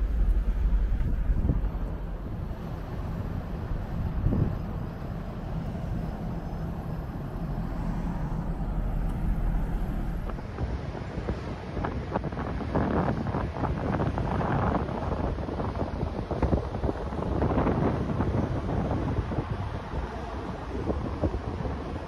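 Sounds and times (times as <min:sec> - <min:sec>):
engine rumble: 0:00.0 - 0:22.0
wind buffeting microphone: 0:00.0 - 0:22.0.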